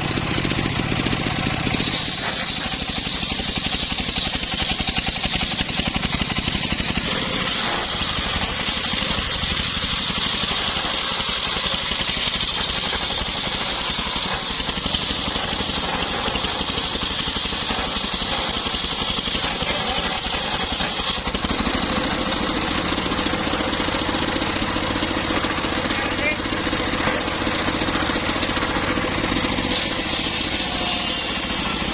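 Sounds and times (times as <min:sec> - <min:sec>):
sawmill engine running: 0:00.0 - 0:31.9.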